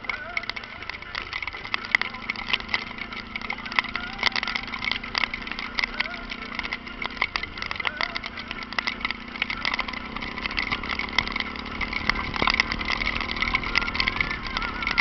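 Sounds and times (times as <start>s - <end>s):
motorcycle engine running: 0.0s - 15.0s
sharp crackles: 0.0s - 15.0s.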